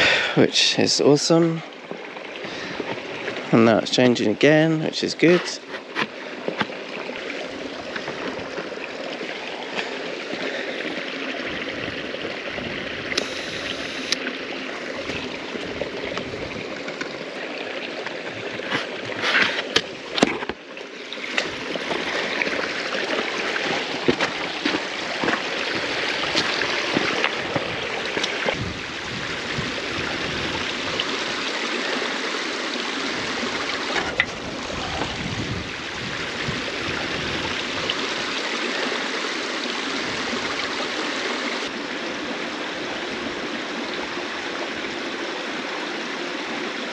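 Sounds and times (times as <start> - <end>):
stream trickling over stones: 0.0 - 46.9.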